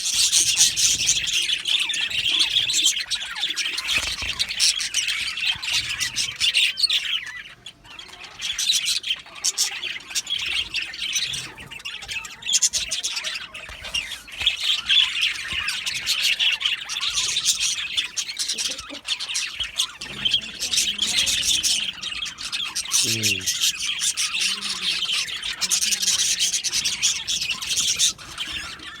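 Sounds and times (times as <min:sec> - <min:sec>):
budgerigars chirping and squawking: 0:00.0 - 0:29.0.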